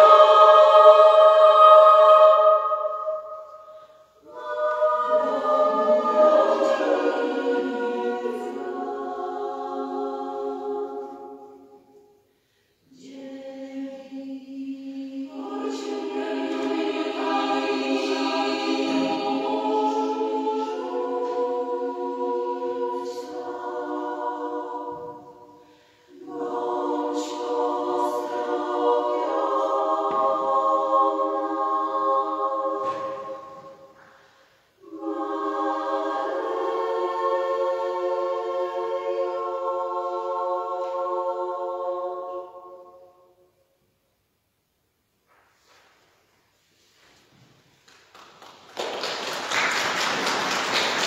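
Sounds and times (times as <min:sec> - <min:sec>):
women's choir singing a cappella: 0:00.0 - 0:43.6, 0:48.5 - 0:51.0.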